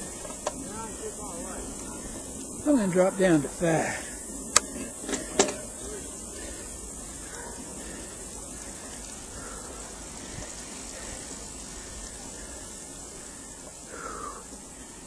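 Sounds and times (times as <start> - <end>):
bicycle tyres rolling on asphalt: 0.0 - 15.0.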